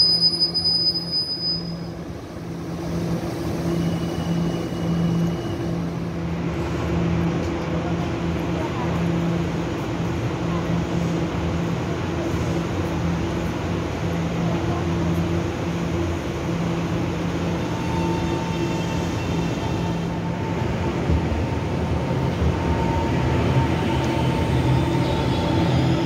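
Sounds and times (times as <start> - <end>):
train moving past: 0.0 - 26.0.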